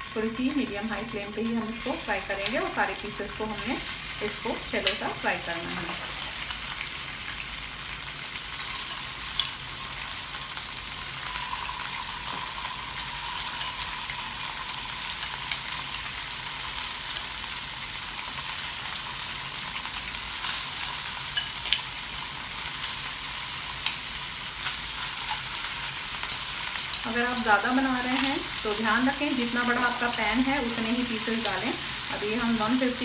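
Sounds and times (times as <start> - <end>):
chicken sizzling in hot oil: 0.0 - 33.0.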